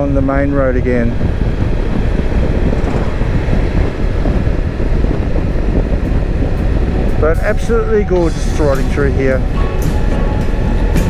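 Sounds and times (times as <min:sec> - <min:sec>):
wind and road noise: 0:00.0 - 0:11.0
motorcycle engine running: 0:00.2 - 0:11.0.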